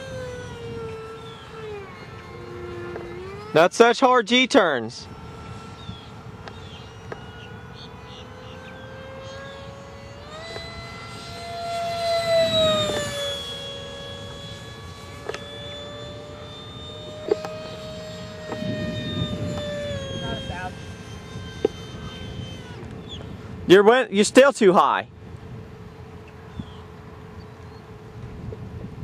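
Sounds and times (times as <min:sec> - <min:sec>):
rc jet high-pitched whine: 0:00.0 - 0:29.0.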